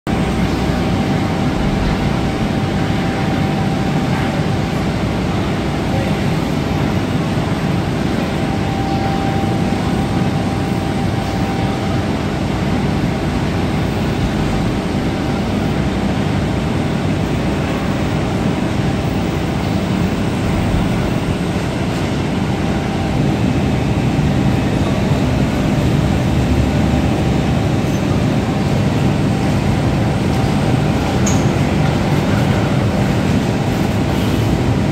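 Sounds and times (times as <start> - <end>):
factory machinery rumble and hum: 0.1 - 34.9.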